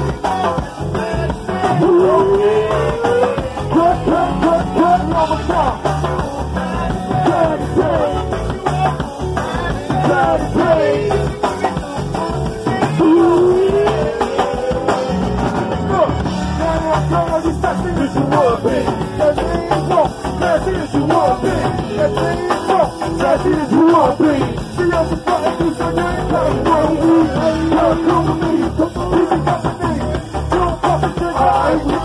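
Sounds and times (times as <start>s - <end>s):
drum and bass groove: 0.0s - 32.0s
person singing: 0.0s - 32.0s.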